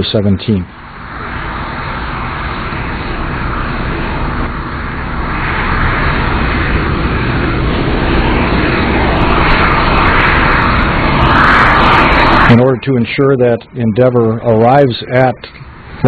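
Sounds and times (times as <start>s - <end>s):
jet engine rush: 0.0s - 16.0s.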